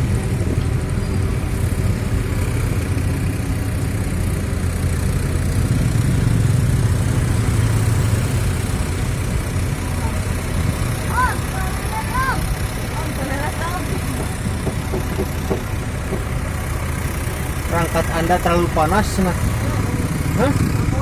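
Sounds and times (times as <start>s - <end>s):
bus engine running: 0.0s - 21.0s.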